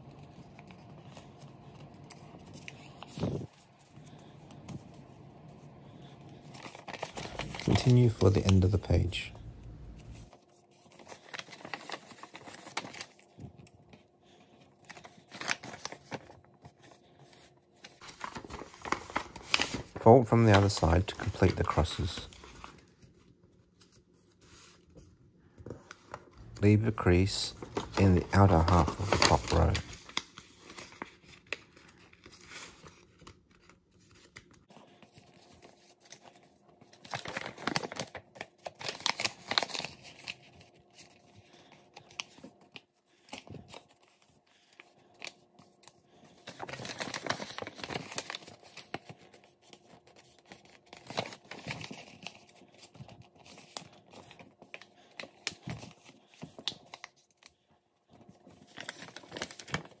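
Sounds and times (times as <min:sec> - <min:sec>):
paper crinkling and rustling: 0:00.0 - 1:00.0.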